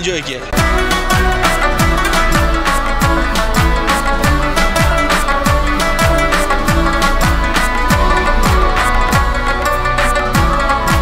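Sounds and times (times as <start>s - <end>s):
background music with steady beat: 0.0s - 11.0s
deep bass drum hits: 0.6s - 9.7s.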